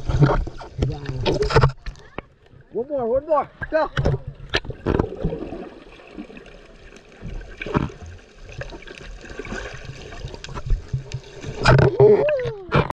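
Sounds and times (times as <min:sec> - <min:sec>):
underwater gurgling and bubbling: 0:00.0 - 0:02.0, 0:03.4 - 0:12.9.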